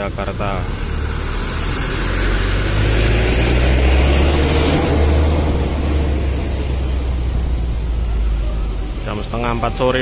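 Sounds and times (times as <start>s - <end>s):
bus driving past: 0.0s - 10.0s.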